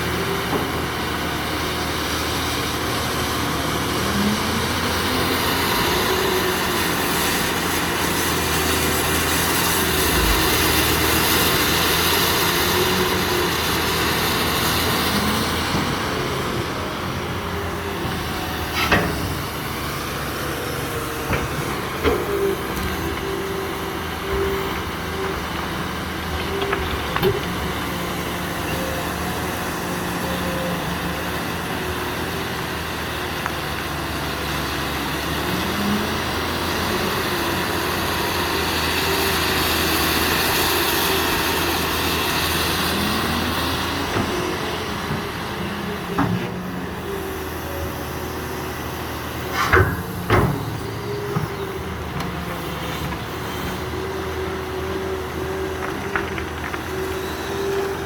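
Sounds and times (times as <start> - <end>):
excavator engine and hydraulics whining: 0.0 - 58.0.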